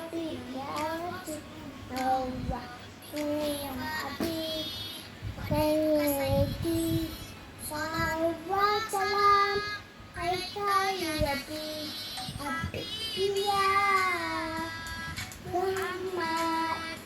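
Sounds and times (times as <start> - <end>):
child singing: 0.0 - 17.0.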